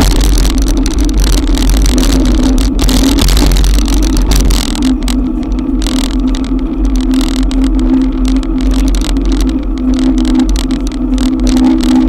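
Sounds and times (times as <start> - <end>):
low wind rumble: 0.0 - 12.0
rain tapping on camera housing: 0.0 - 12.0
steady hum: 0.0 - 12.0.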